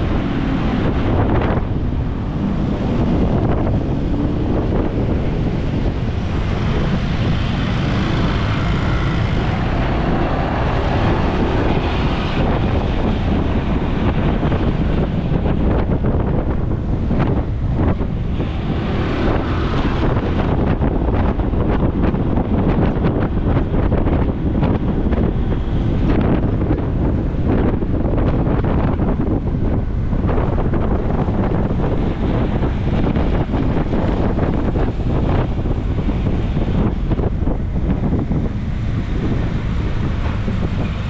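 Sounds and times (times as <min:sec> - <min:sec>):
road and traffic noise: 0:00.0 - 0:41.0
wind buffeting microphone: 0:00.0 - 0:41.0.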